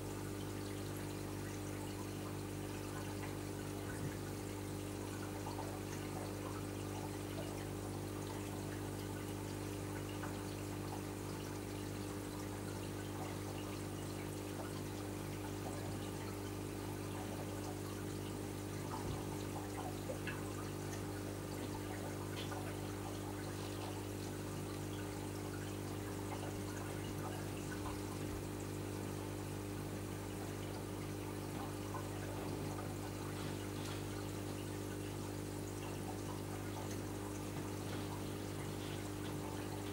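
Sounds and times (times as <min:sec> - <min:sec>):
low pump hum: 0:00.0 - 0:39.9
water trickling and bubbling: 0:00.0 - 0:39.9.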